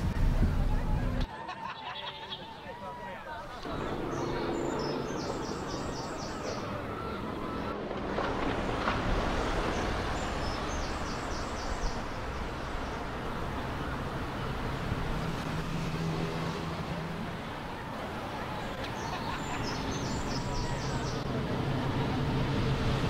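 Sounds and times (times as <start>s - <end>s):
traffic noise: 0.0s - 23.0s
vehicle passing: 3.6s - 23.0s.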